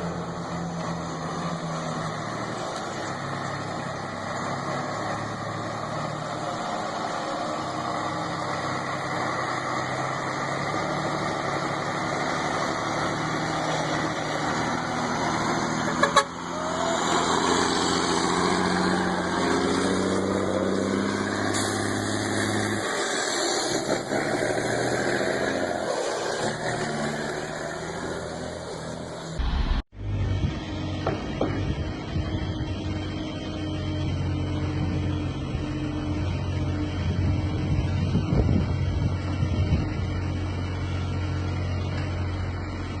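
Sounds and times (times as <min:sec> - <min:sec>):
heavy vehicle engines running: 0:00.0 - 0:43.0.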